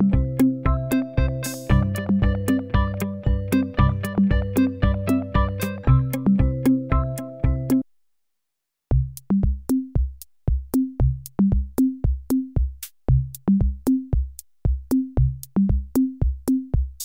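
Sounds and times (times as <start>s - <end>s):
electronic drum machine beat: 0.0s - 7.8s, 8.9s - 17.0s.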